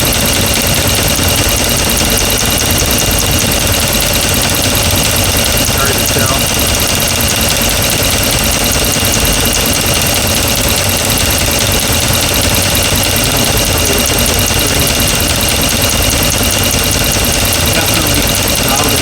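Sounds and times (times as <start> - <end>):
car engine idling: 0.0 - 19.0
rapid valve tick: 0.0 - 19.0.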